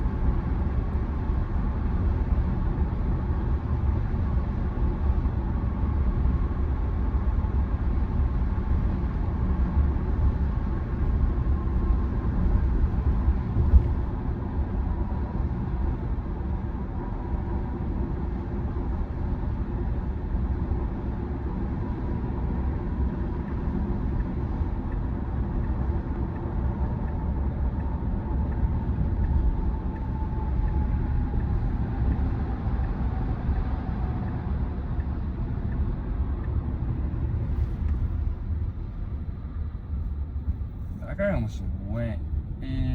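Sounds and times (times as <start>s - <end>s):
road and tyre rumble in car: 0.0s - 42.9s.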